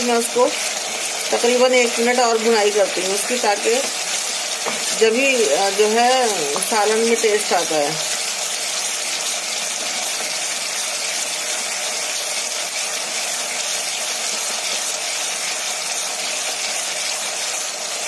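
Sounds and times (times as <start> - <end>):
spice paste sizzling in oil: 0.0 - 18.0
wooden spoon stirring in pan: 0.0 - 18.0.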